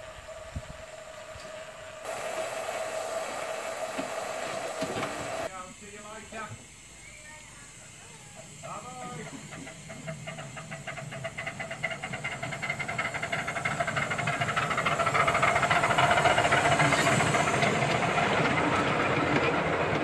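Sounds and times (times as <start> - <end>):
steam hissing: 0.0 - 20.0
steam locomotive exhaust beats: 0.0 - 20.0.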